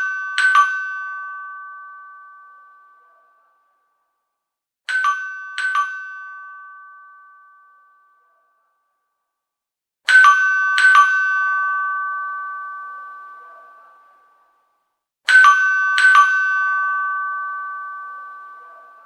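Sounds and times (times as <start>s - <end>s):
doorbell ding-dong chime: 0.0s - 3.9s, 4.9s - 9.0s, 10.1s - 19.0s.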